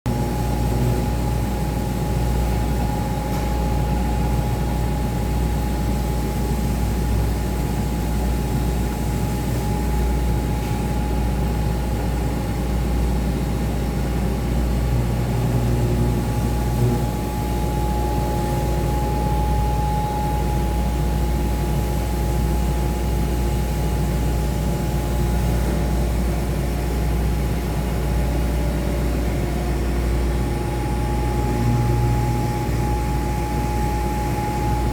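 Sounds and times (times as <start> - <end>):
milling machine running: 0.1 - 34.9.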